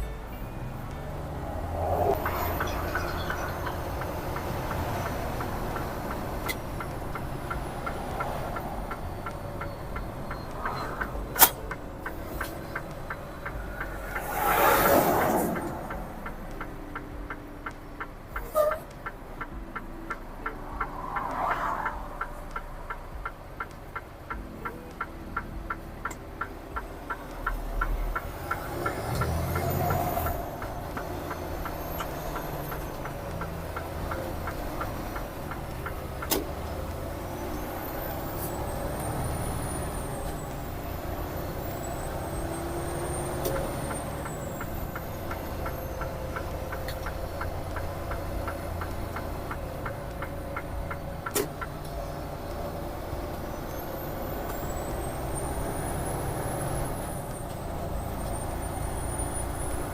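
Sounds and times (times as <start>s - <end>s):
diesel truck engine running: 0.0s - 59.9s
turn signal ticking: 0.0s - 59.9s.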